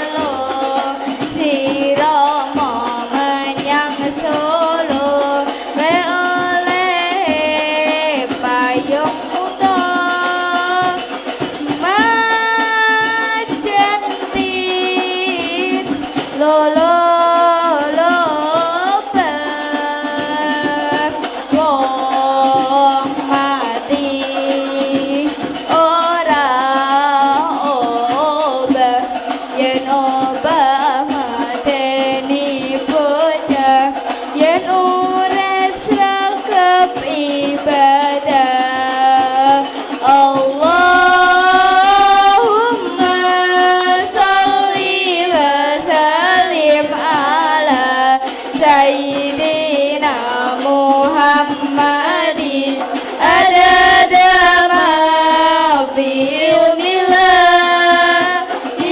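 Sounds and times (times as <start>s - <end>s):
jingling percussion: 0.0s - 58.9s
voices singing a melody: 0.0s - 58.9s.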